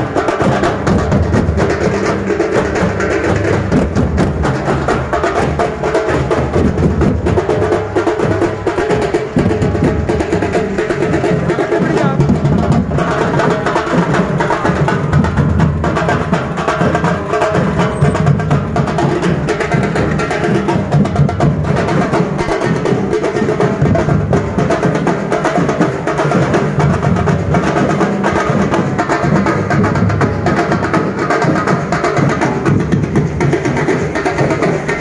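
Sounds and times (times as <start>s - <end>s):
rapid drumming music: 0.0s - 35.0s.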